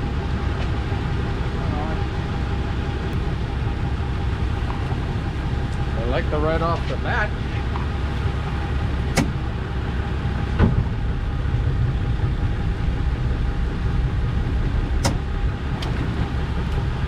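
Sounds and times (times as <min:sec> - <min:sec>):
boat motor low rumble: 0:00.0 - 0:17.0.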